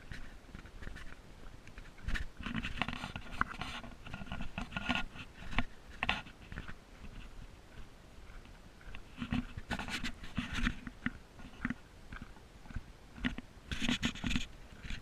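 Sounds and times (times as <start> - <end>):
footsteps crunching on a trail: 0.0 - 15.0.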